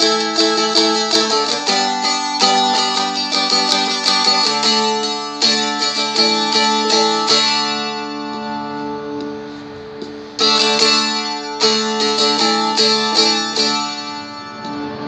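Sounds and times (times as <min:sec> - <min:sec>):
strumstick chords strummed: 0:00.0 - 0:15.0.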